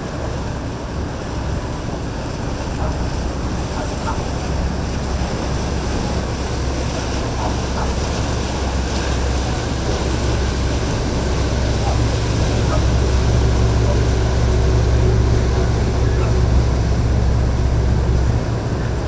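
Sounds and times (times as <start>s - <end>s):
boat engines rumbling: 0.0s - 19.0s
waves washing: 0.0s - 19.0s.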